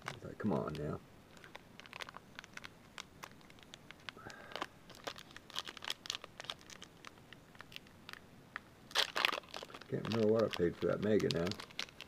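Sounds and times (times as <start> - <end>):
foil pack crinkling: 0.0 - 8.2, 8.9 - 12.0.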